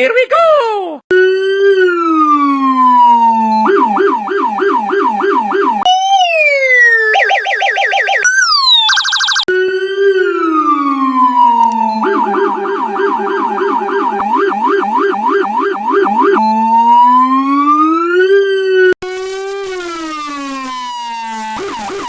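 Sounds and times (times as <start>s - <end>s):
electronic police siren: 1.6s - 9.5s, 10.1s - 18.9s, 20.0s - 22.0s.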